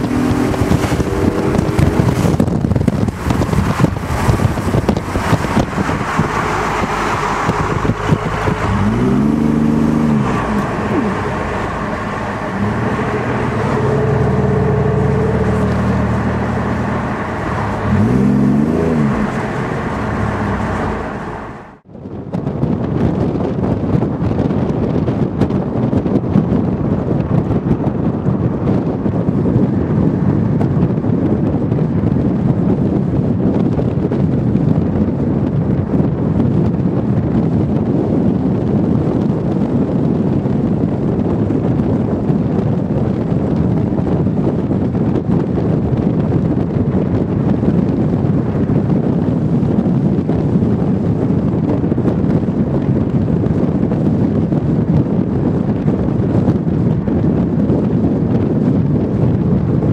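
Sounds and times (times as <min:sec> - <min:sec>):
car road noise at speed: 0:00.0 - 0:59.9
wind blowing on microphone: 0:00.0 - 0:59.9.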